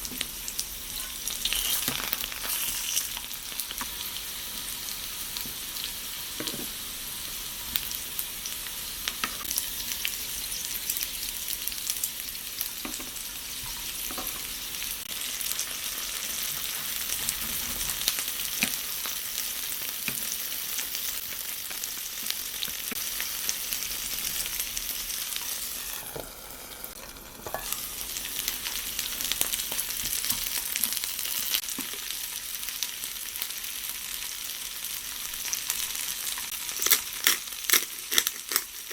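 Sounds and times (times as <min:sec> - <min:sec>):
potatoes sizzling in a frying pan: 0:00.0 - 0:38.9.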